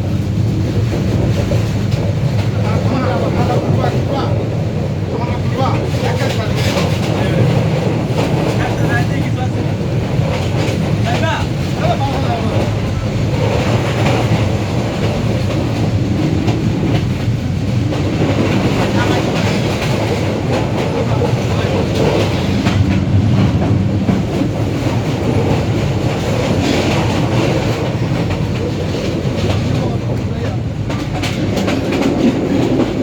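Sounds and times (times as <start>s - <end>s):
train rumbling along track: 0.0s - 33.0s.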